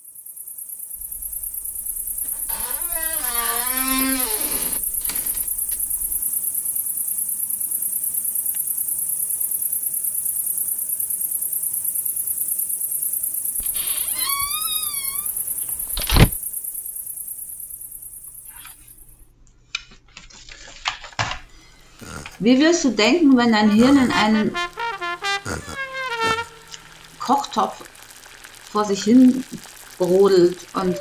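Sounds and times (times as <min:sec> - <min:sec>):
high-pitched pulsing hiss: 0:00.9 - 0:19.2, 0:21.8 - 0:31.0.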